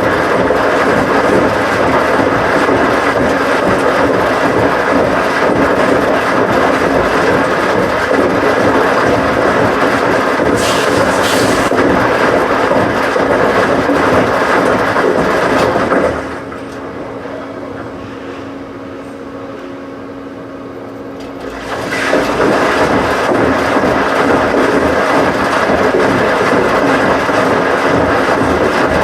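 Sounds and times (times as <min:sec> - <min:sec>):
washing machine rushing: 0:00.0 - 0:29.0.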